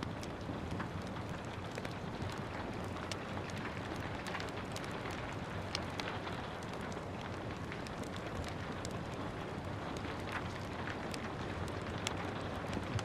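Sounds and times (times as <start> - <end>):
steady rain: 0.0 - 13.0
wood fire crackling and popping: 0.0 - 13.0.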